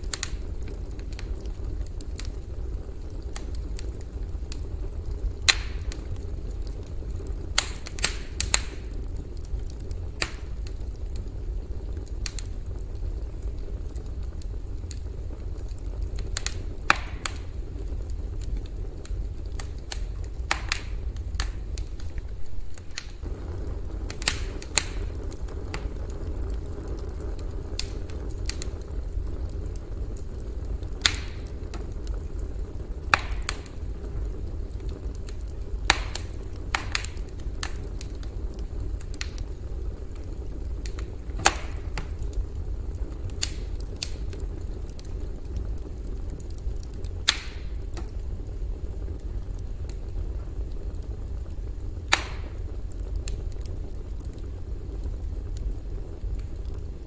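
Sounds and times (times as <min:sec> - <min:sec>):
burning wood crackling and popping: 0:00.0 - 0:57.0
campfire rumble: 0:00.0 - 0:57.0.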